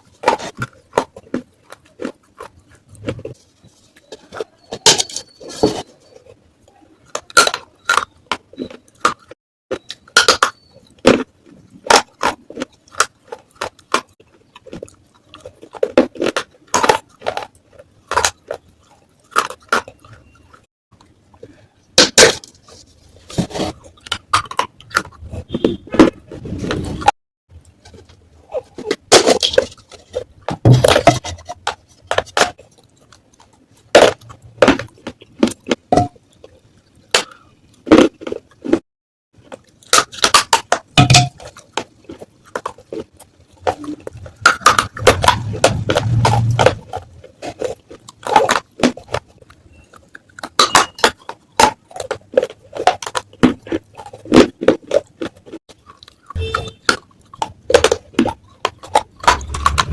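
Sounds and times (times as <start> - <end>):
clay pot pieces crunching: 0.0 - 38.8, 39.4 - 59.9.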